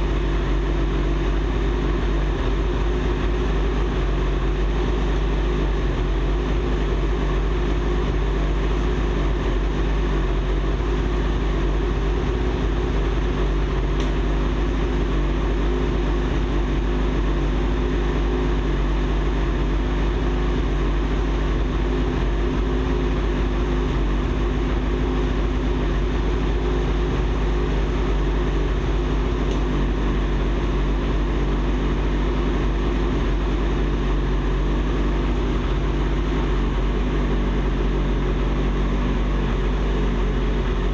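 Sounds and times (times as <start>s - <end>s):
snowmobile engine idling: 0.0s - 40.9s.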